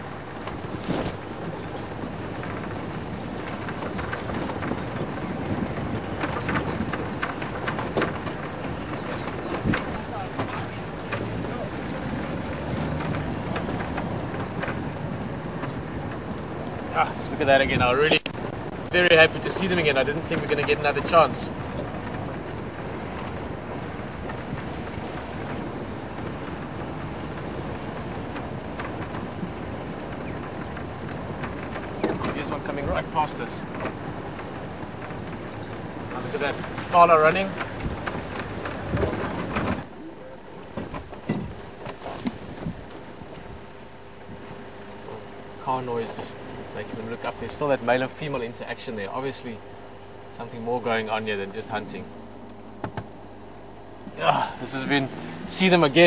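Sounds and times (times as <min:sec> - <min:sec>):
bodywork knocking and rattling: 0:00.0 - 0:39.9, 0:40.6 - 0:44.7, 0:51.6 - 0:53.3
vehicle engine and road noise: 0:00.0 - 0:56.0.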